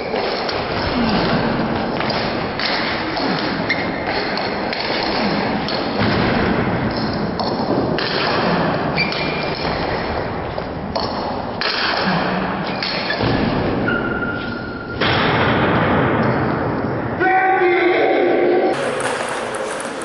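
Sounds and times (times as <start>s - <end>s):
din of table tennis hall: 0.0s - 20.0s.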